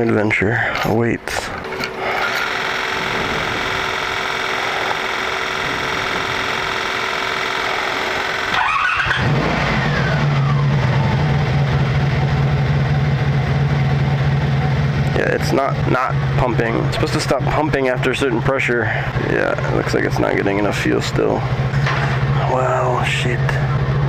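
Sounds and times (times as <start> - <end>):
steady buzzing: 1.1 - 24.0
motorcycle engine starting and idling: 1.3 - 24.0.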